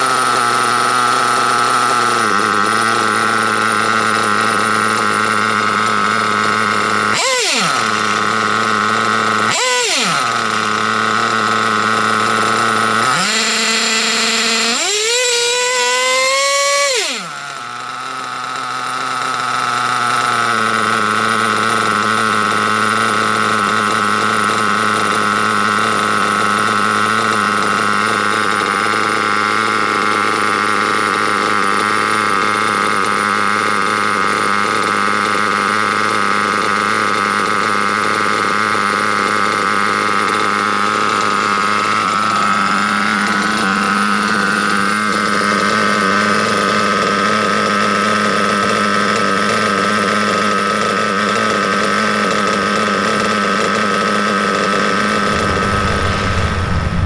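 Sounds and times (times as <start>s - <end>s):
nitro engine idling: 0.0s - 57.0s.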